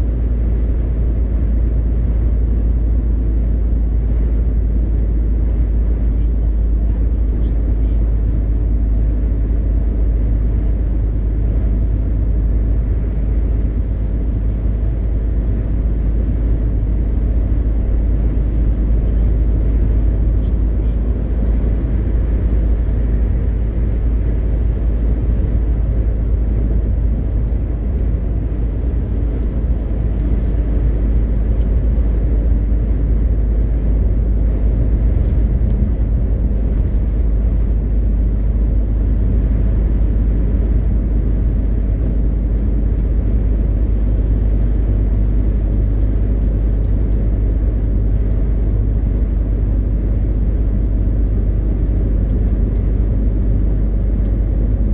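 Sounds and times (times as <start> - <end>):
truck diesel engine rumble: 0.0 - 54.9.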